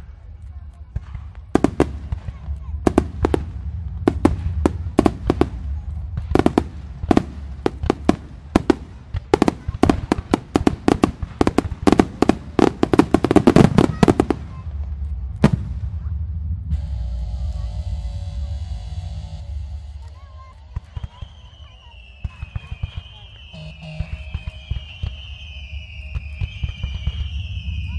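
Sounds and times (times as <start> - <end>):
low rumble: 0.0 - 21.6, 23.8 - 27.9
fireworks bangs and cracks: 0.1 - 17.7, 19.7 - 27.9.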